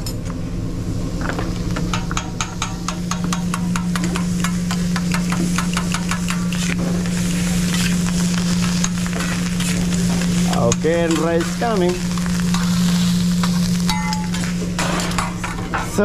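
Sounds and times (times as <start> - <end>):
steady low hum: 0.0 - 16.0
food sizzling on griddle: 1.5 - 16.0.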